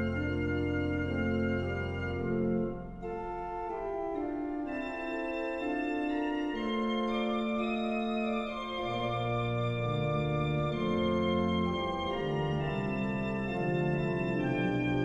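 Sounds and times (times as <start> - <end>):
organ playing held chords: 0.0 - 15.0.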